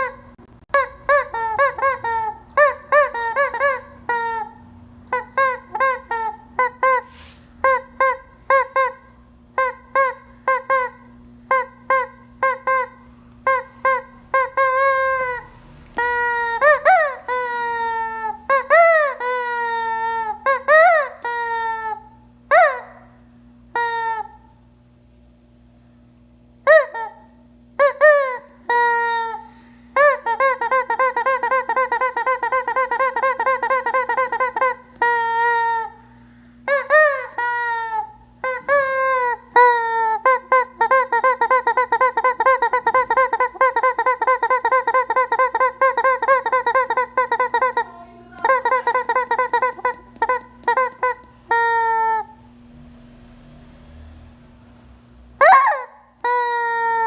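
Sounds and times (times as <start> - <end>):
rubber chicken squawking: 0.0 - 9.0, 9.6 - 23.0, 27.8 - 36.0, 36.7 - 52.4, 55.4 - 57.0
electric fan motor hum: 0.0 - 23.8, 24.4 - 55.4.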